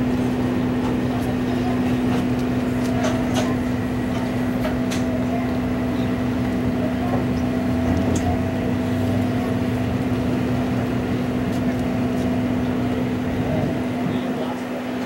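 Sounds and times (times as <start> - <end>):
boat machinery humming: 0.0 - 15.0.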